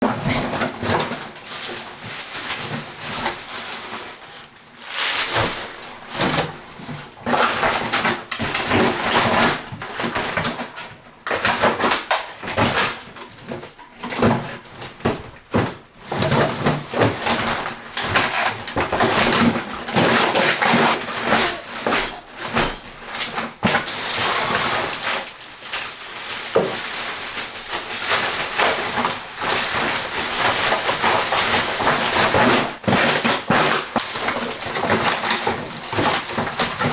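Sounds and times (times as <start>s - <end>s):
rustling and scraping: 0.0s - 36.9s.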